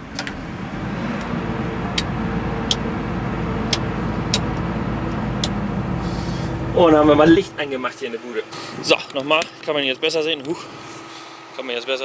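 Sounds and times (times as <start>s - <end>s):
diesel engine starting and idling: 0.0s - 11.6s.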